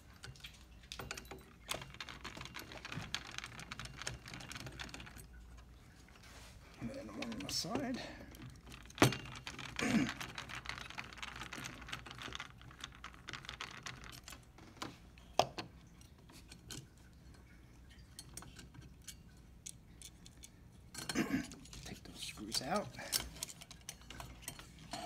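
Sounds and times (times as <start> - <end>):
small parts being handled: 0.0 - 17.2, 17.9 - 25.0.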